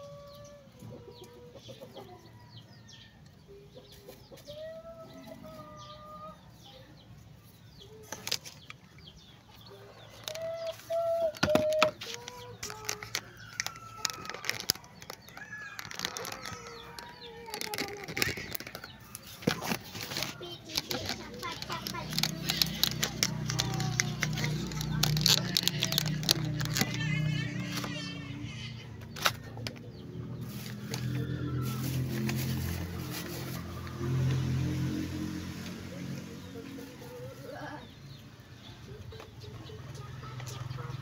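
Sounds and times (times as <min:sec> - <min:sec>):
chickens clucking: 0:00.0 - 0:34.9, 0:35.6 - 0:41.0.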